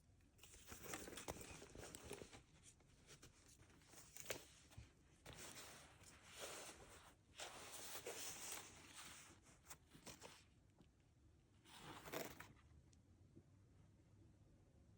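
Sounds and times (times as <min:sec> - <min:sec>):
soft rustling of wrapping: 0:00.1 - 0:11.0, 0:11.6 - 0:12.7.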